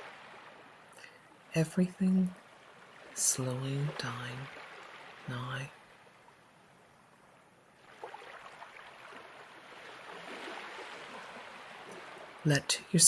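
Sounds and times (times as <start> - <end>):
ocean waves washing onto shore: 0.0 - 7.2, 7.8 - 13.0.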